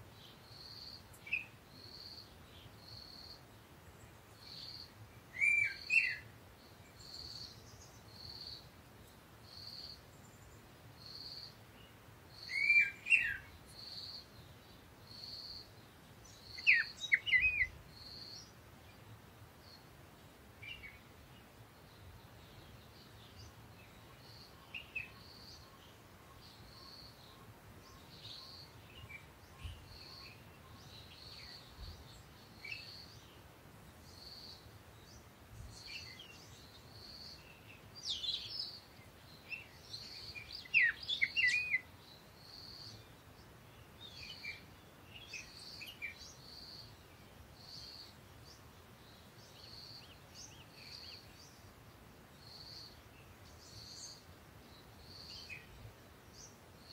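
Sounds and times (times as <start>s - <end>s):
birds chirping: 0.3s - 33.4s, 34.0s - 51.7s.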